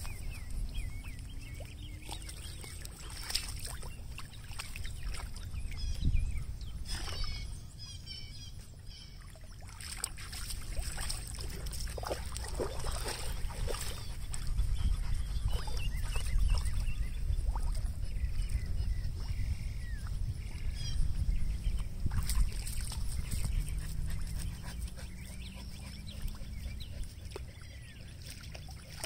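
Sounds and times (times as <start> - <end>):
wind rumble on microphone: 0.0 - 9.1, 10.0 - 29.0
water splashing from swimming dogs: 0.0 - 29.0.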